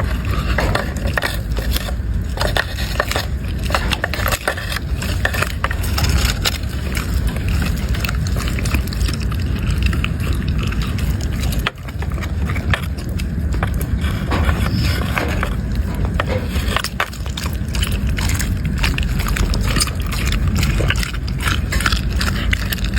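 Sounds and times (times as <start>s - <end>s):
dog chewing crunchy food: 0.0s - 22.9s.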